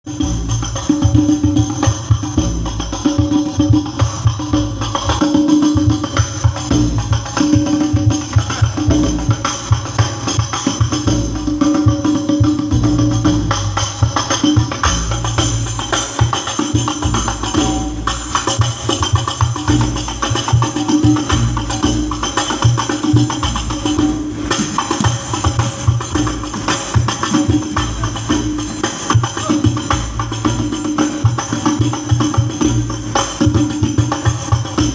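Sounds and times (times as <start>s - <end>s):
jingling tambourines: 0.0s - 34.9s
deep drum beat: 0.1s - 34.9s.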